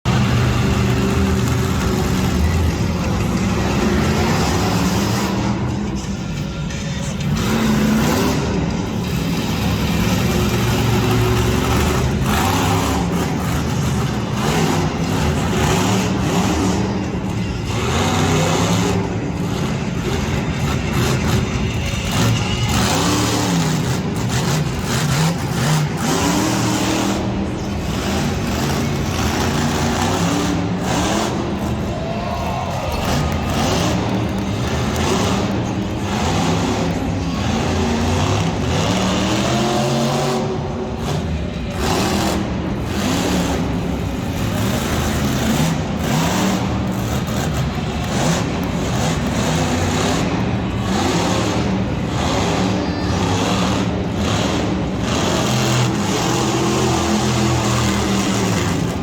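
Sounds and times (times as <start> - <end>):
monster truck engine revving: 0.0 - 59.0.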